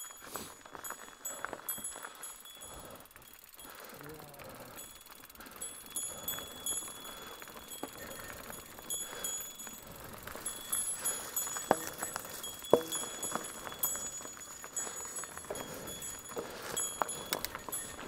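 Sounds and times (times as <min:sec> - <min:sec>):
mountain bike rattling on trail: 0:00.0 - 0:18.0.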